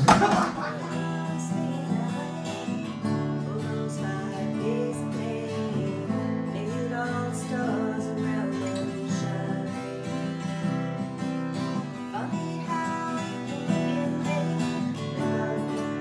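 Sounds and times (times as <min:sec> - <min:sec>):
acoustic guitar strumming: 0:00.0 - 0:16.0
person singing: 0:00.0 - 0:16.0.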